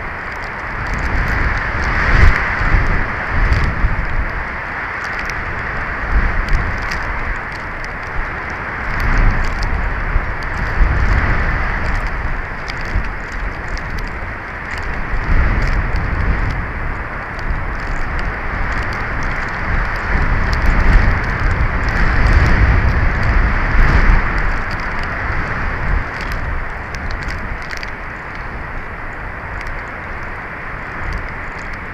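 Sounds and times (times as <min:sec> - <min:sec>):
faint ticks: 0:00.0 - 0:31.9
wind buffeting microphone: 0:00.0 - 0:31.9.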